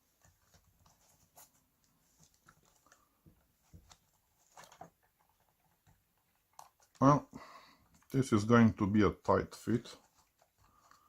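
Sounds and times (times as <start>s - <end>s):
faint clicks and rustles: 0.0s - 11.0s.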